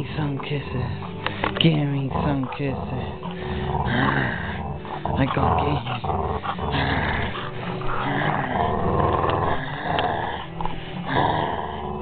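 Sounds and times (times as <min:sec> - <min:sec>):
dog growling: 0:00.0 - 0:12.0.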